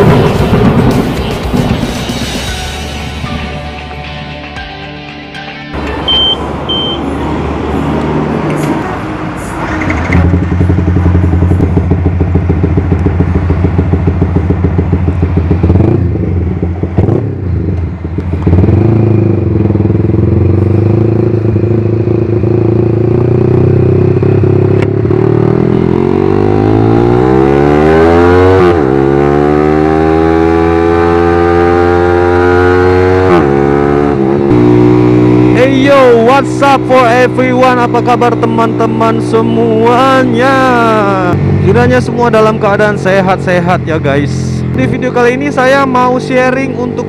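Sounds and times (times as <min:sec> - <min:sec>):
motorcycle engine idling and revving: 0:00.0 - 0:04.0, 0:05.8 - 0:47.0.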